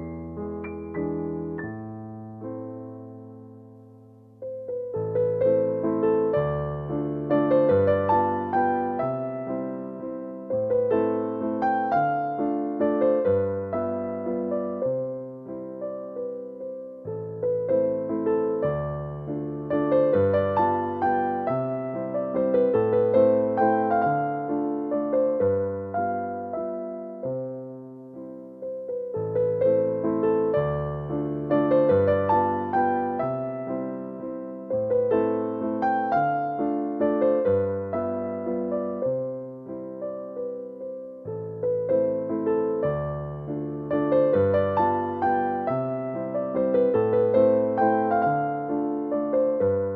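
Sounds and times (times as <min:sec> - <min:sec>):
soft piano music: 0:00.0 - 0:49.9.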